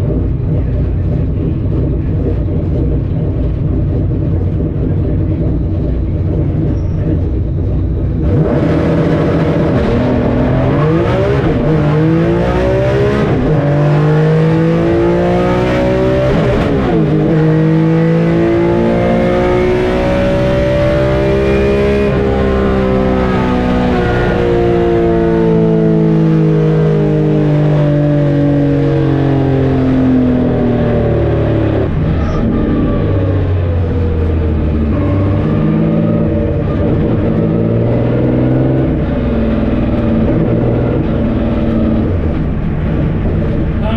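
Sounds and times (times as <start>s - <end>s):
car engine at full throttle: 0.0s - 43.9s.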